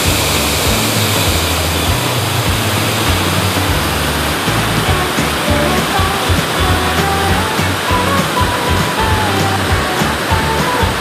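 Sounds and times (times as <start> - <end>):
background music with bass notes: 0.0 - 11.0.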